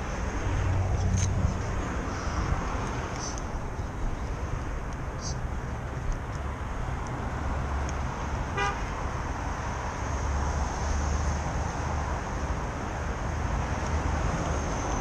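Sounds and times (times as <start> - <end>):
street low rumble: 0.0 - 15.0.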